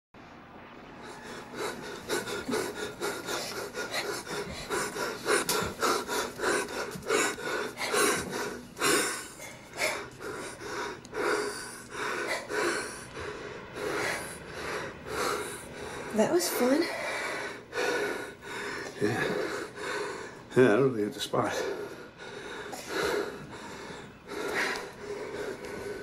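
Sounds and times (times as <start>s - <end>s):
man and woman breathing hard: 1.0s - 20.6s, 21.4s - 26.0s.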